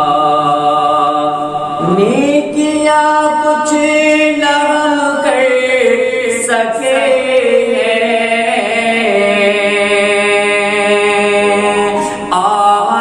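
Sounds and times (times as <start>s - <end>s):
man singing long melismatic notes: 0.0s - 13.0s.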